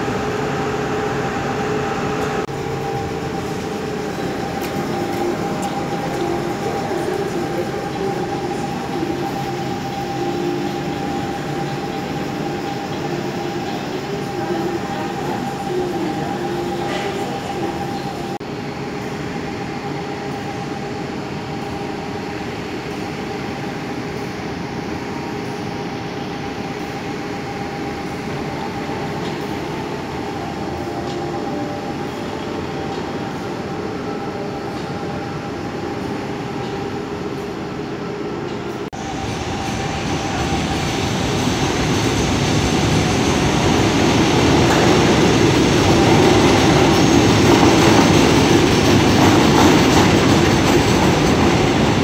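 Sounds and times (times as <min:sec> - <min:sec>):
metro train moving: 0:00.0 - 0:52.0.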